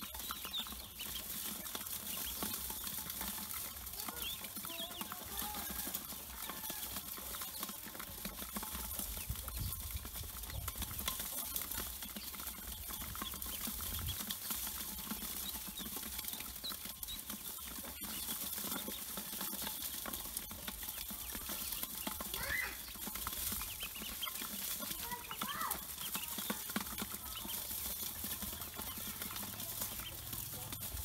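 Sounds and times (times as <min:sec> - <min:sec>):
duckling peeps: 0:00.0 - 0:31.0
ducklings pattering on metal: 0:00.0 - 0:31.0.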